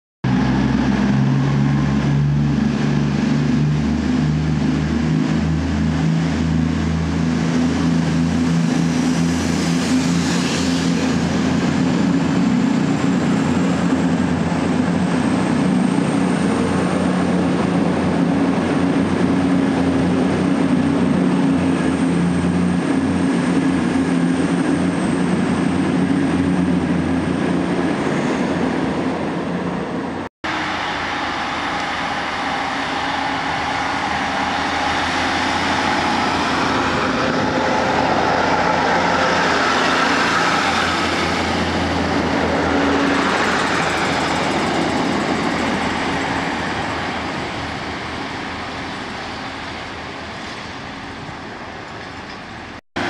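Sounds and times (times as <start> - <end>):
diesel train engines droning: 0.2 - 53.0
carriages rushing past: 0.3 - 52.7.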